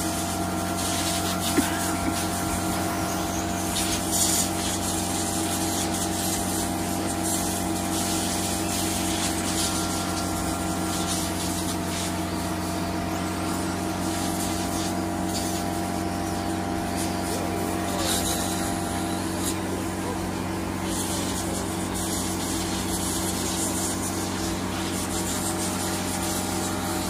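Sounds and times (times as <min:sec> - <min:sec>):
loud hiss: 0:00.0 - 0:27.0
steady machine hum: 0:00.0 - 0:27.0.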